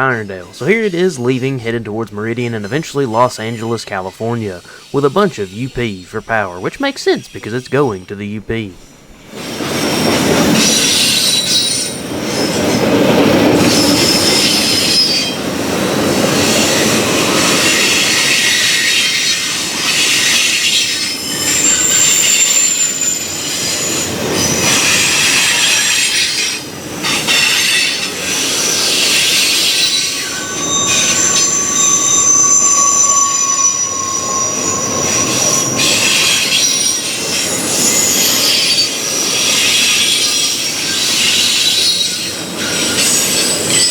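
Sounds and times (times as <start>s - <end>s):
train wheels squealing on rail: 2.5s - 5.6s, 8.8s - 43.9s
freight train rumbling past: 8.5s - 43.9s.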